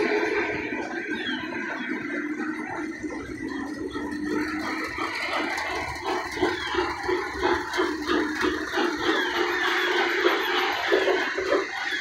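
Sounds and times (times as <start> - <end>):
model train wheels rattling on track: 0.0 - 12.0.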